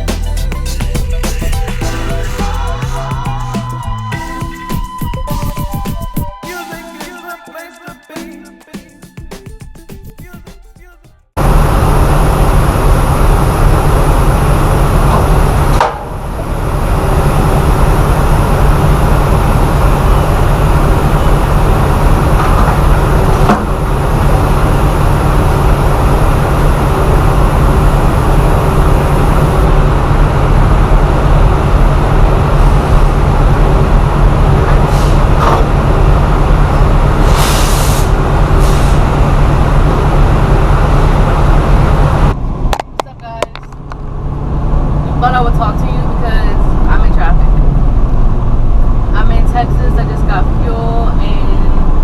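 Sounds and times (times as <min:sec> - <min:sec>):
truck engine and road noise: 0:00.0 - 0:06.4, 0:09.0 - 0:52.0.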